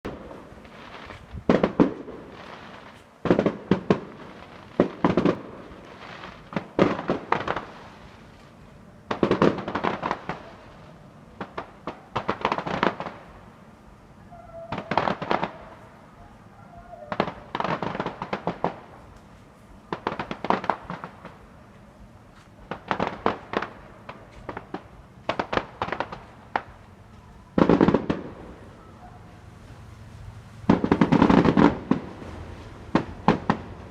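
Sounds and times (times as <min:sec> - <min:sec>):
fireworks cracking and banging: 0:00.0 - 0:13.7, 0:14.5 - 0:16.1, 0:16.8 - 0:33.9.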